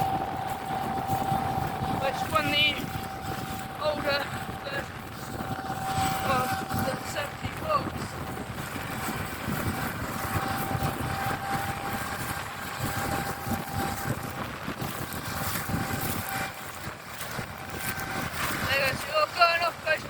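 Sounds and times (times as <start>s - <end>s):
combine harvester engine rumble: 0.0s - 20.0s
constant machinery whine: 0.0s - 20.0s.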